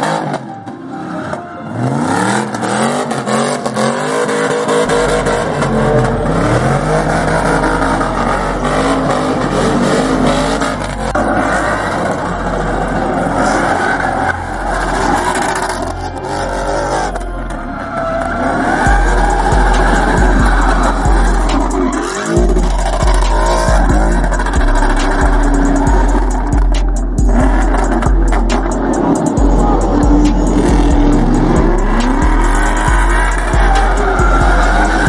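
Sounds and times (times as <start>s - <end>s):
car engine revving: 0.0s - 35.0s
steady low drone: 4.8s - 35.0s.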